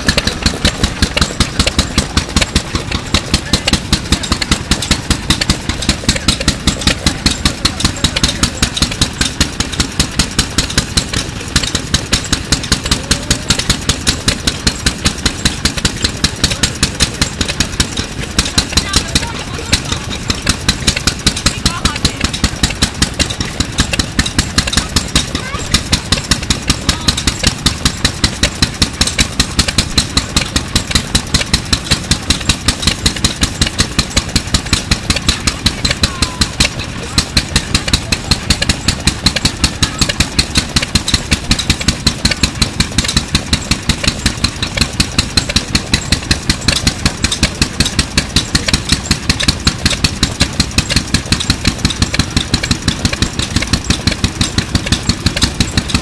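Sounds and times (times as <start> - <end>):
stationary engine running: 0.0 - 56.0.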